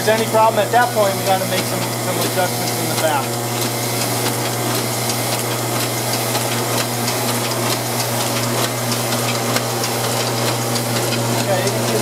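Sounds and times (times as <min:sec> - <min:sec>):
printing press humming: 0:00.0 - 0:12.0
rapid sheet-feed clicking: 0:00.0 - 0:12.0.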